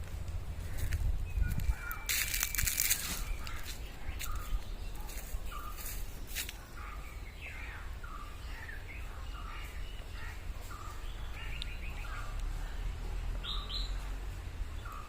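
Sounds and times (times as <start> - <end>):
birds chirping: 0.0 - 15.0
noisy rustling: 0.0 - 15.0.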